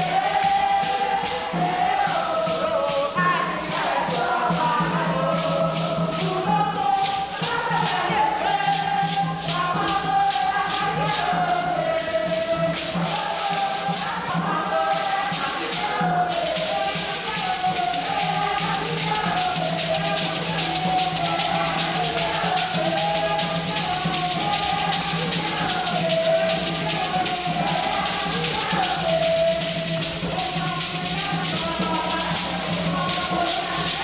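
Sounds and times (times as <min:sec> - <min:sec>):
gourd rattles shaken: 0:00.0 - 0:34.0
voices singing: 0:00.0 - 0:34.0.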